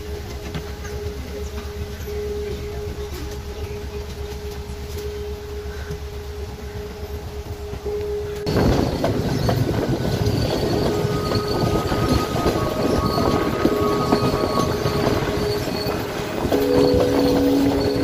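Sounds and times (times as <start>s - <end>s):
train rumbling on rails: 0.0s - 18.0s
wheels clacking over rail joints: 0.0s - 18.0s
wheels squealing: 0.0s - 18.0s.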